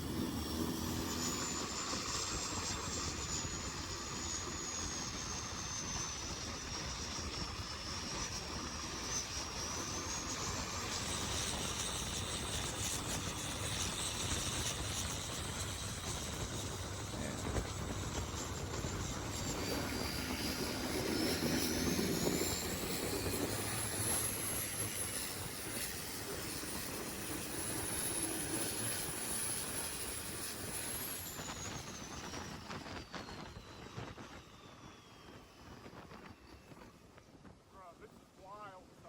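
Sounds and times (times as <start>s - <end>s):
high turbo whine: 0.0s - 39.0s.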